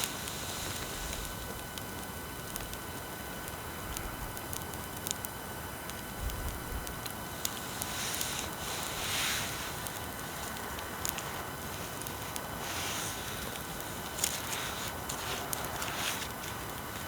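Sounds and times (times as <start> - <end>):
bonfire crackling and popping: 0.0 - 17.0
steady hiss: 0.0 - 17.0.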